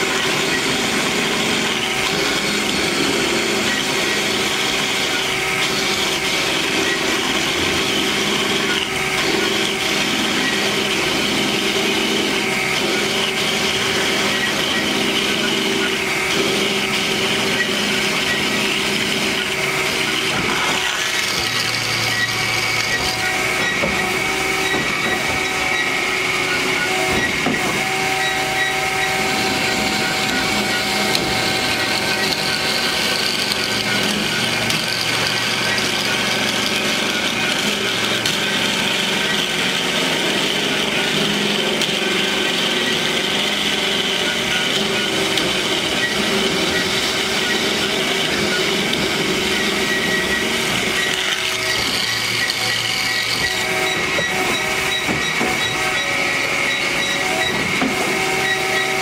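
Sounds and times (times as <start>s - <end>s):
band saw cutting metal tube: 0.0s - 59.0s.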